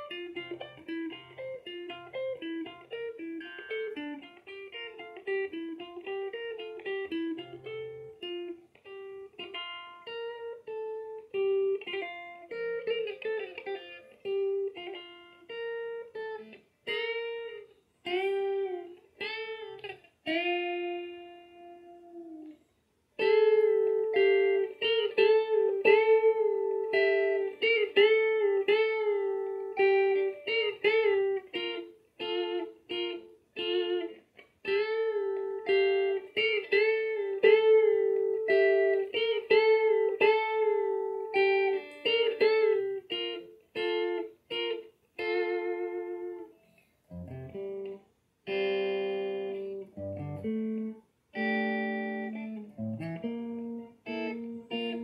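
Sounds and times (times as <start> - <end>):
clean electric guitar melody: 0.0 - 55.0.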